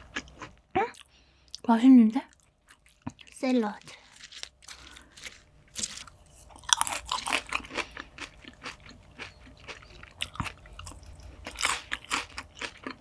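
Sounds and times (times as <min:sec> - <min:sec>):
crunching and chewing salad: 0:00.0 - 0:01.7, 0:02.3 - 0:13.0.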